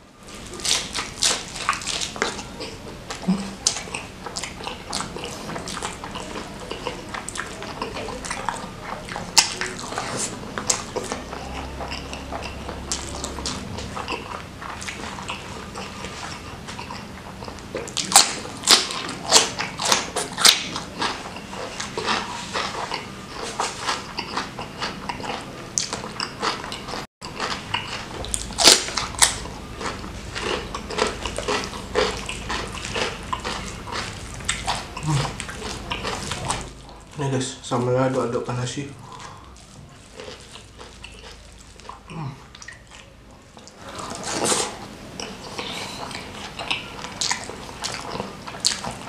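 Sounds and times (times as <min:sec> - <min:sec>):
chewing and crunching food: 0:00.2 - 0:38.2, 0:39.0 - 0:49.0.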